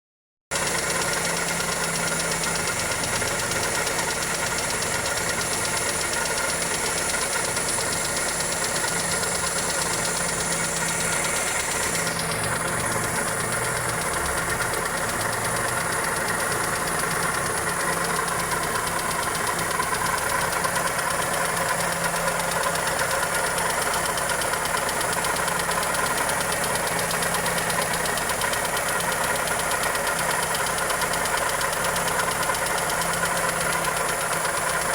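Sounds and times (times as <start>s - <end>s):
car engine idling with ticking knock: 0.5s - 34.9s.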